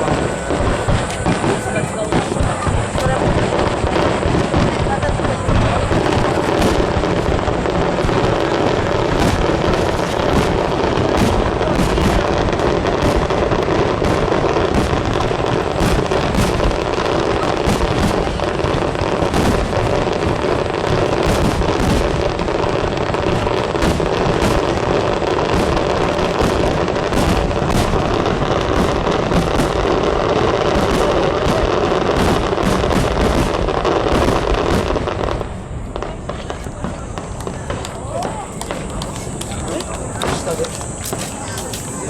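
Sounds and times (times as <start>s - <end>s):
aerial fireworks barrage: 0.0s - 42.0s.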